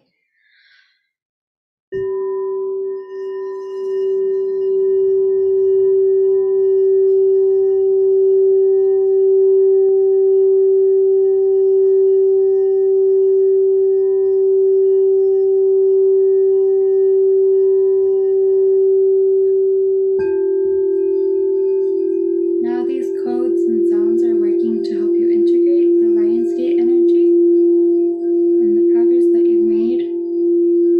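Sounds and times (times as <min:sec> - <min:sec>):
singing bowl ringing tone: 0:02.0 - 0:30.9.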